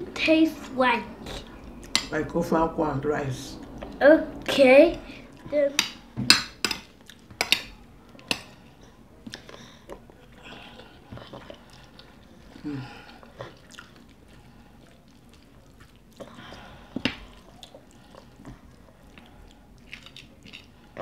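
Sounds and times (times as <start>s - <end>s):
people chewing and smacking: 1.2s - 2.2s, 3.6s - 21.0s.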